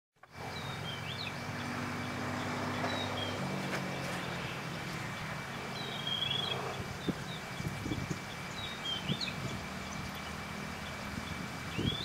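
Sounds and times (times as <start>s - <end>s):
high bird chirps: 0.5s - 3.5s, 4.2s - 12.0s.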